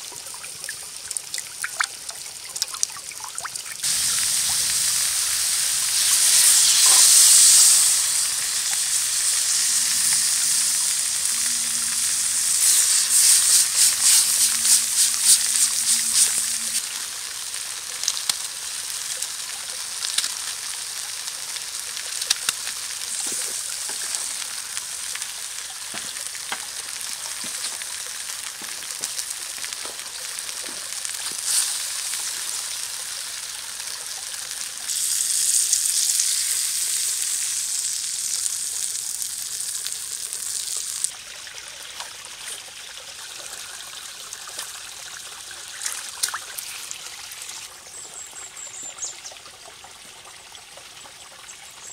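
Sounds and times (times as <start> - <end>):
vegetables sizzling in a pot: 3.8 - 41.2, 43.6 - 49.2.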